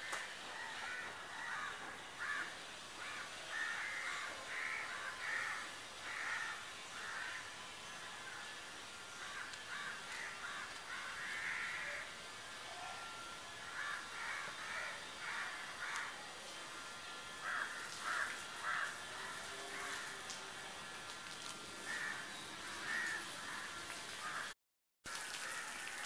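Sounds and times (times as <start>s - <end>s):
harsh caw-like bird calls: 0.0s - 16.2s, 17.2s - 20.4s, 21.8s - 24.6s.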